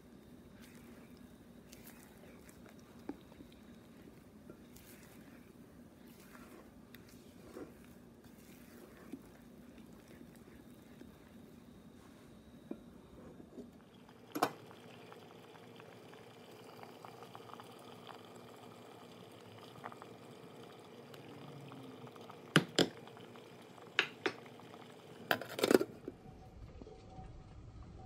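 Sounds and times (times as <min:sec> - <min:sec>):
water bubbling in a pot: 0:00.0 - 0:12.6, 0:13.7 - 0:26.1.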